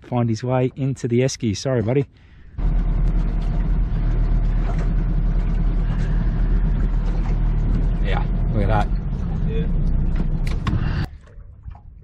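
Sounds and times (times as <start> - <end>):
outboard motor running: 2.2 - 12.0.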